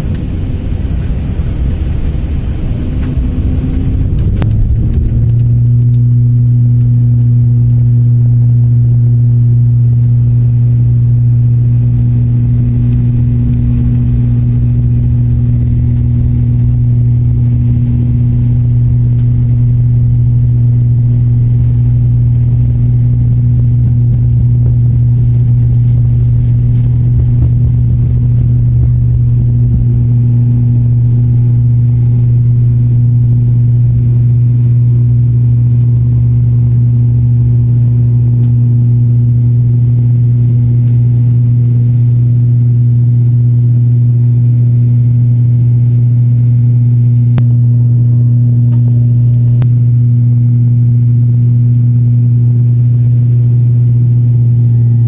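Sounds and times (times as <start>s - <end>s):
low runway rumble: 0.0s - 55.0s
propeller engine drone: 0.0s - 55.0s.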